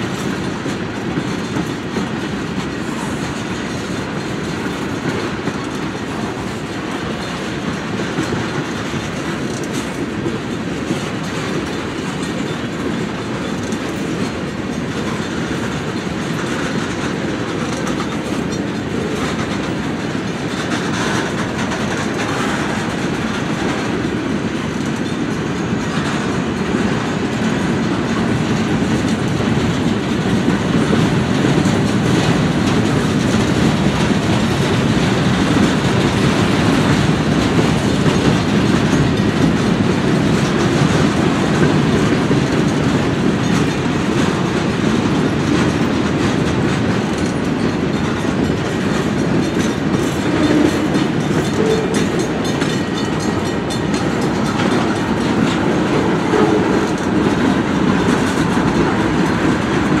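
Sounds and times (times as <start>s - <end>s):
freight train wheels on rails: 0.0s - 60.0s.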